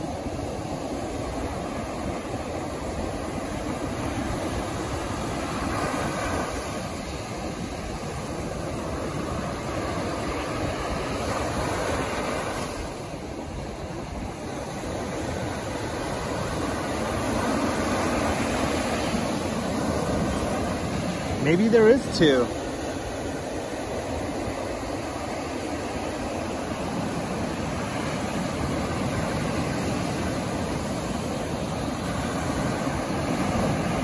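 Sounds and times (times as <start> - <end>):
ocean waves breaking on beach: 0.0 - 34.0.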